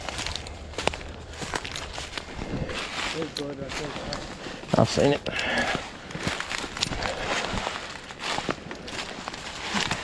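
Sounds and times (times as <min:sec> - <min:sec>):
footsteps on rough ground: 0:00.0 - 0:10.0.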